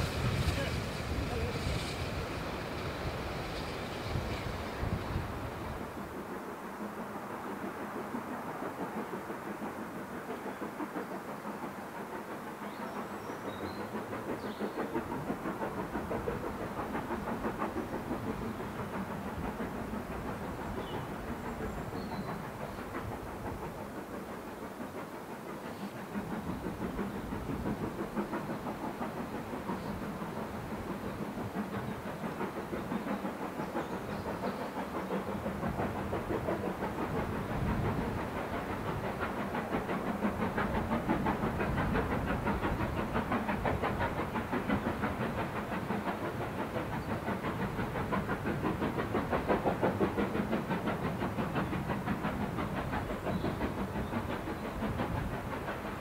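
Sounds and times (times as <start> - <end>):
steam train running: 0.0 - 56.0.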